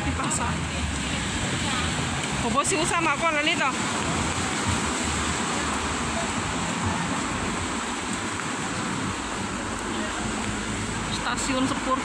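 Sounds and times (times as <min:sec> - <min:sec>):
rain on pavement: 0:00.0 - 0:12.0.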